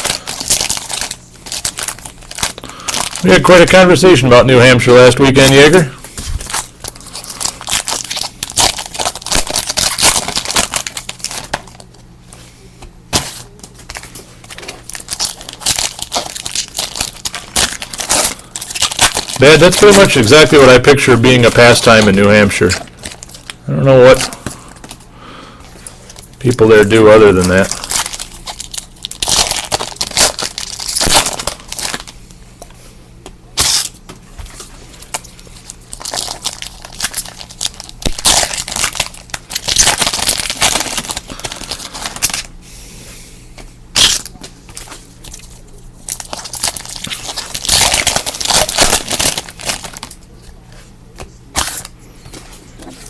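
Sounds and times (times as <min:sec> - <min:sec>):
foil wrappers crinkling and tearing: 0:00.0 - 0:12.0, 0:13.1 - 0:25.1, 0:25.8 - 0:32.2, 0:33.6 - 0:42.6, 0:43.9 - 0:50.8, 0:51.5 - 0:53.0.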